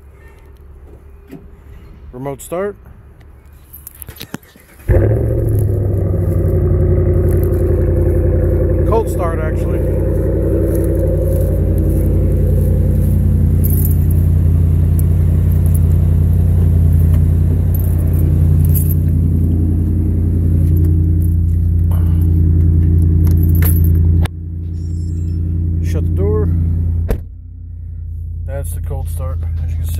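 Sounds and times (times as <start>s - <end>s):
truck engine idling: 4.5s - 29.9s.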